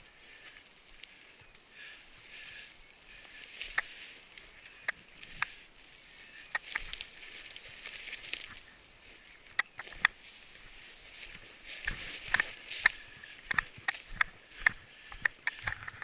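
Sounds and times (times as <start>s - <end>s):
footsteps through dry scrub: 0.0s - 16.0s
twigs snapping: 0.2s - 5.6s, 6.3s - 16.0s.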